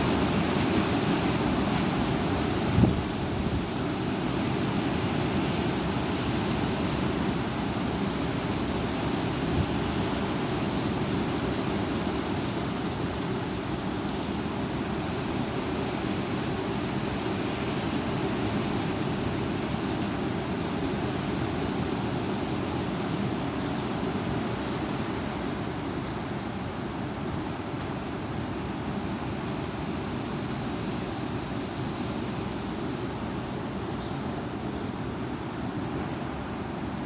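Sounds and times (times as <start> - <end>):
strong wind roaring: 0.0 - 37.0.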